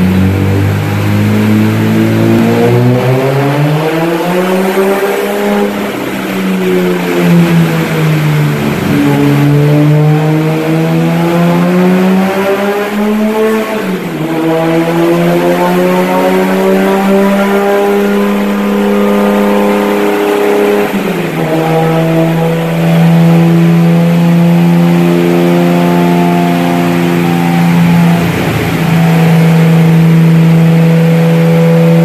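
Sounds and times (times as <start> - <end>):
turbocharged engine revving on dyno: 0.0 - 32.0.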